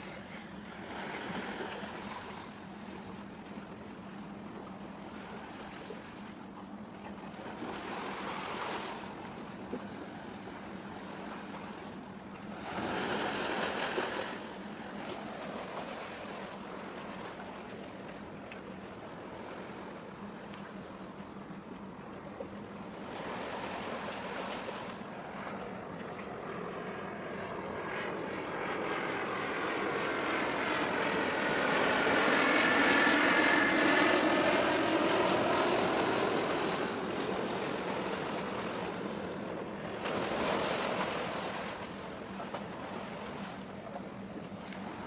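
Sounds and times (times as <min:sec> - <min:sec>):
aircraft passing overhead: 0:00.0 - 0:45.0.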